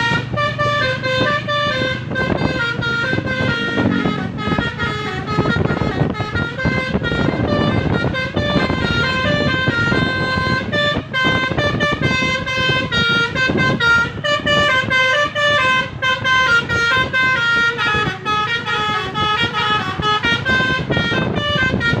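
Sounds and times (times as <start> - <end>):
bus musical air horn melody: 0.0 - 22.0
steady low rumble: 0.0 - 22.0.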